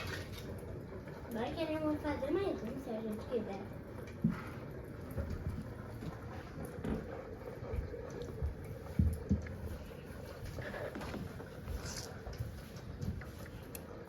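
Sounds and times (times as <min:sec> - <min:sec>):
wood fire crackling and popping: 0:00.0 - 0:13.9.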